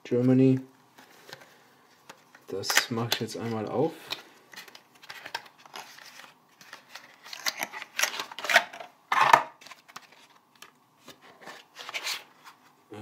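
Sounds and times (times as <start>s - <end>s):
cardboard and plastic rustling: 0.9s - 12.8s.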